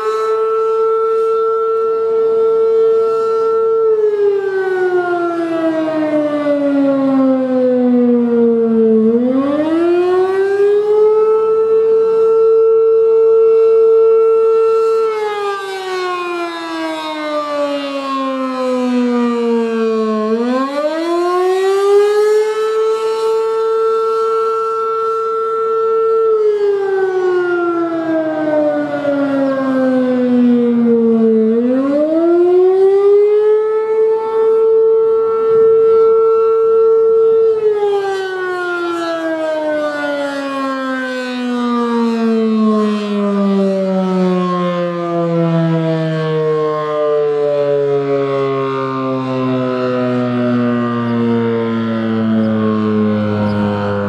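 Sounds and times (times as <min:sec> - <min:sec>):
rotating siren wailing: 0:00.0 - 0:54.0.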